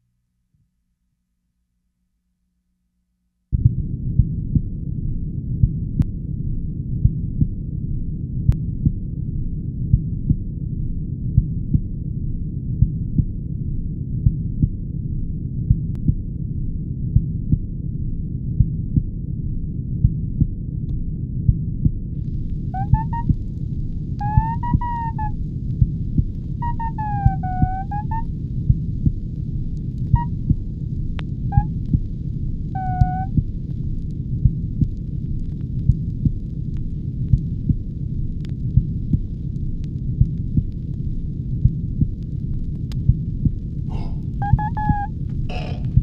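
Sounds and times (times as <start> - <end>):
muffled low throbbing rumble: 3.5 - 46.0.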